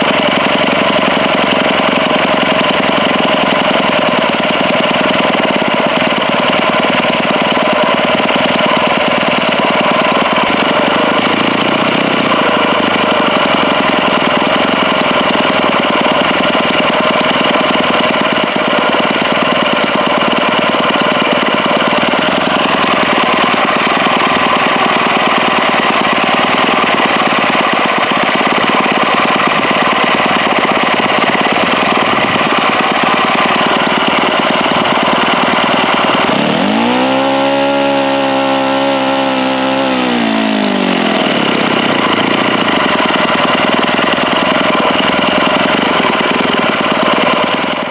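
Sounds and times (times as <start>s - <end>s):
model engine running: 0.0s - 47.9s.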